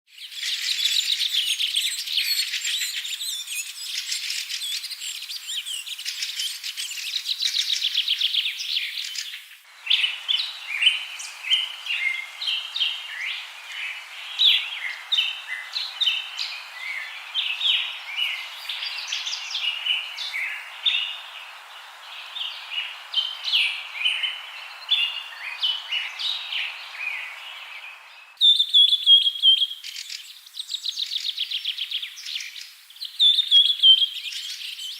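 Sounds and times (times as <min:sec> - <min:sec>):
songbirds chirping: 0:00.1 - 0:34.9
background hiss: 0:00.2 - 0:34.9.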